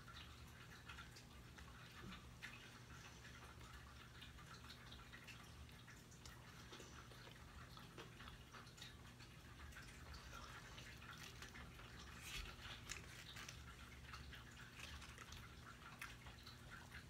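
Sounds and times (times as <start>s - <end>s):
faint chewing: 0.0s - 17.0s.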